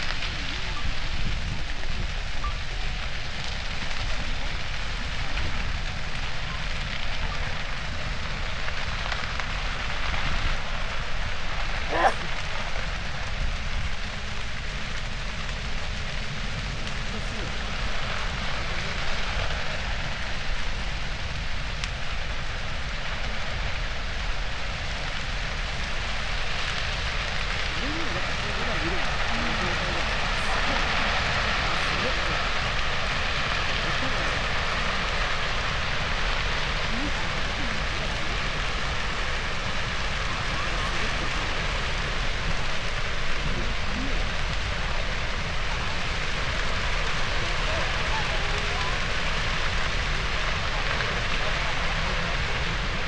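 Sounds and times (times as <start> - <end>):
dry grass crackling and hissing: 0.0 - 53.0.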